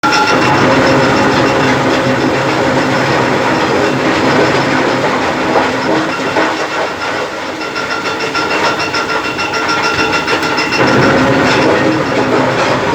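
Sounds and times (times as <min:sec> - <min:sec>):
conveyor belt rattle: 0:00.0 - 0:12.9
stone crusher mechanical clatter: 0:00.0 - 0:12.9.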